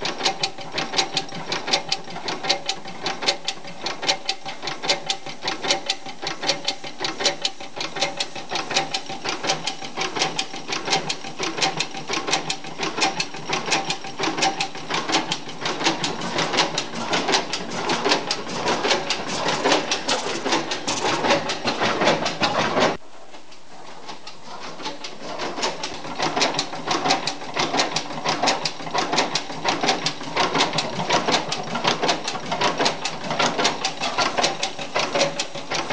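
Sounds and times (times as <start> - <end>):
stationary gas engine clattering: 0.0 - 35.9.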